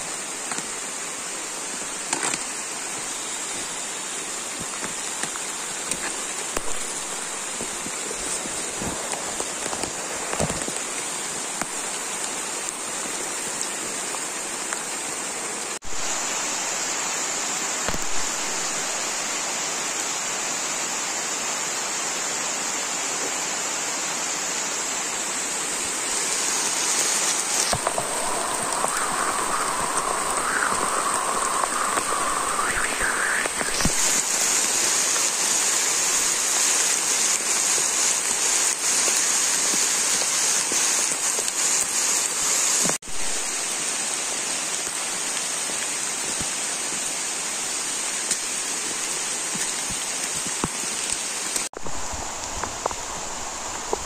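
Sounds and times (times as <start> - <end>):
flowing water rushing: 0.0 - 21.0, 24.3 - 54.0.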